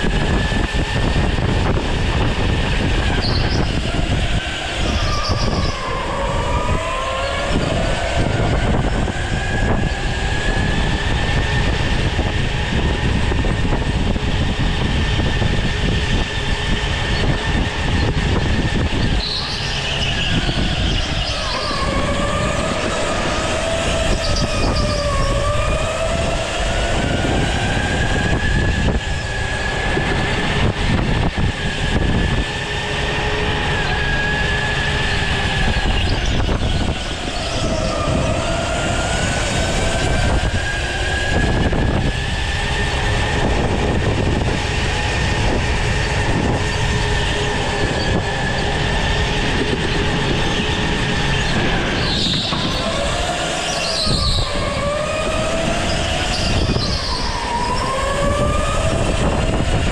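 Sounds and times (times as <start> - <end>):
go-kart engine whine: 0.0 - 59.9.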